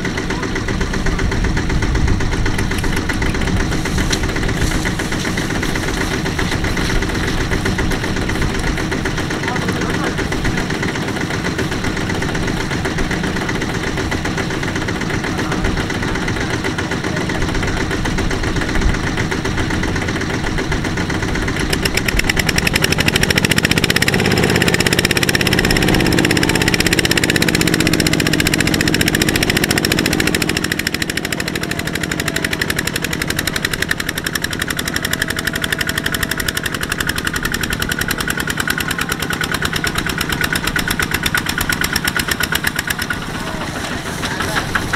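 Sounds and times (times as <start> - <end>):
diesel engine working hard: 0.0 - 44.9.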